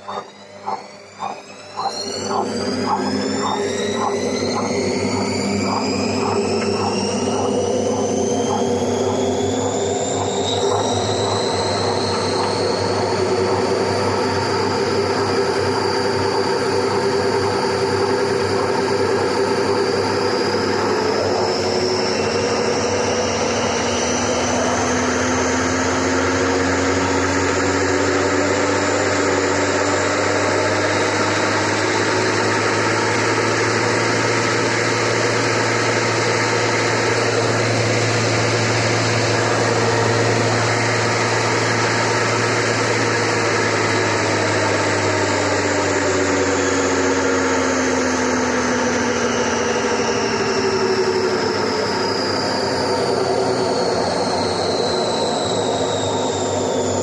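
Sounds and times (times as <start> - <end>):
worn bearings whining: 0.0 - 57.0.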